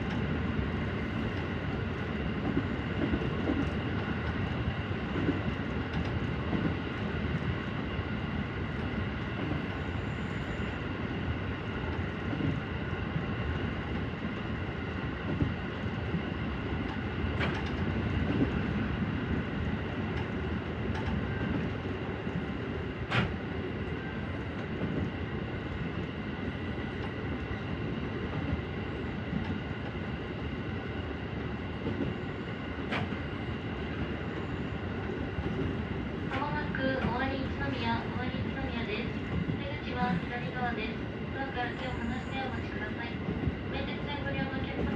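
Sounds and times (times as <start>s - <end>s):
electric train rumbling: 0.0s - 44.9s.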